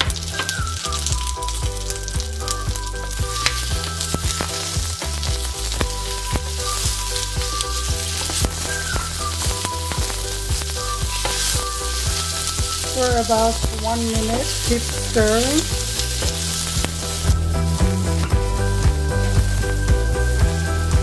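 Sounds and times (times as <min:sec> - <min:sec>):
wooden spatula stirring: 0:00.0 - 0:19.8
spattering pops: 0:00.0 - 0:20.2
food sizzling in hot oil: 0:00.0 - 0:21.0.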